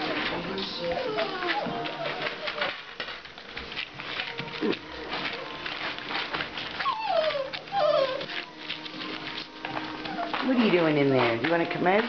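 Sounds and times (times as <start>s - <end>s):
puppy whining: 0.0s - 11.4s
paws and claws clicking: 0.0s - 12.0s
tarp and paper crinkling: 0.0s - 12.0s.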